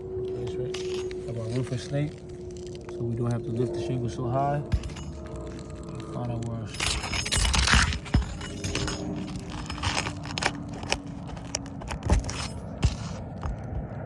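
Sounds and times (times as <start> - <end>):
tool scraping under shingle: 0.2 - 13.8.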